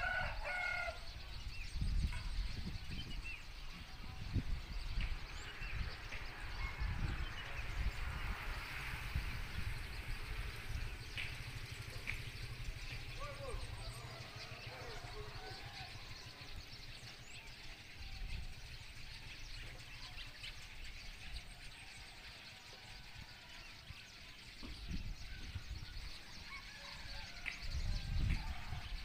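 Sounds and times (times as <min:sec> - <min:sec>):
low rumble on microphone: 0:00.0 - 0:22.2, 0:22.8 - 0:29.0
faint outdoor background: 0:00.0 - 0:29.0
small birds chirping: 0:00.0 - 0:29.0.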